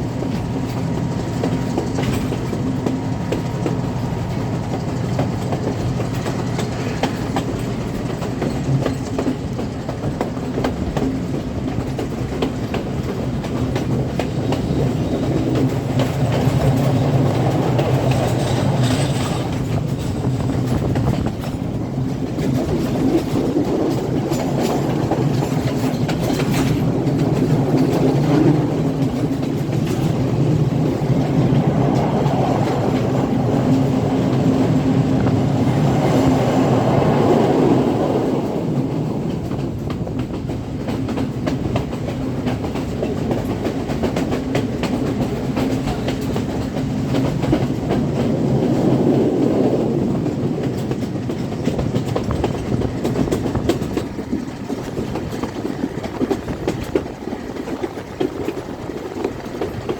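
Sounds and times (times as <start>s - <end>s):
clickety-clack of rail joints: 0.0s - 59.9s
train wheels rumbling on rails: 0.0s - 59.9s.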